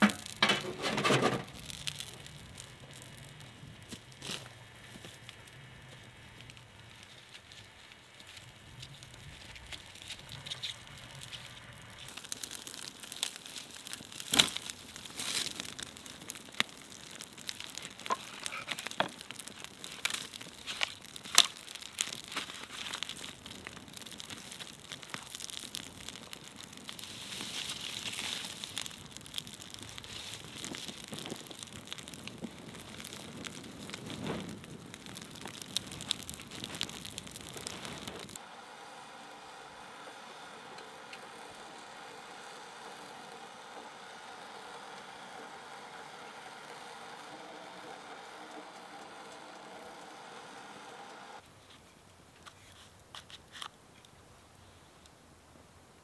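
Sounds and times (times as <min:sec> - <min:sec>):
campfire crackling and popping: 0:00.0 - 0:55.2.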